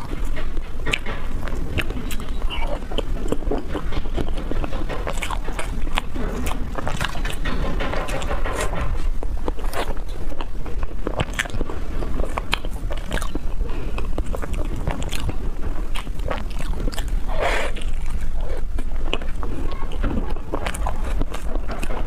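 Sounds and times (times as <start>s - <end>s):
steady low hum: 0.0s - 22.0s
wet chewing and lip smacks: 0.0s - 22.0s.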